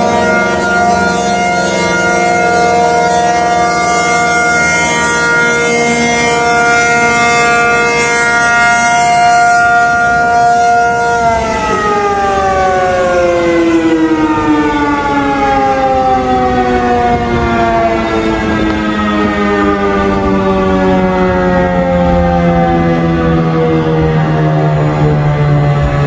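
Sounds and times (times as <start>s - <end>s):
tornado warning sirens: 0.0s - 26.0s.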